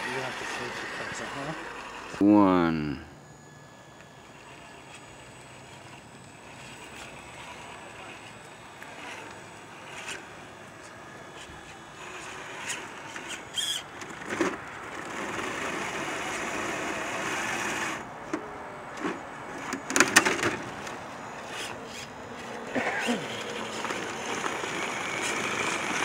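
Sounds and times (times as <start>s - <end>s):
electric motors whirring: 0.0s - 26.0s.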